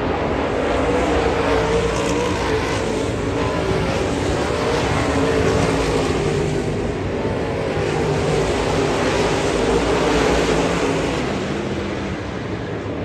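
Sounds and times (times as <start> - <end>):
race car engines running: 0.0 - 13.0.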